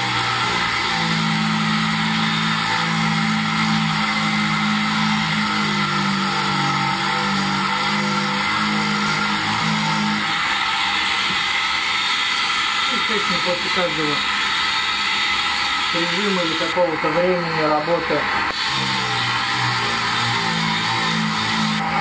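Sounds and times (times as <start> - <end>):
grinding wheel hissing on steel: 0.0 - 22.0.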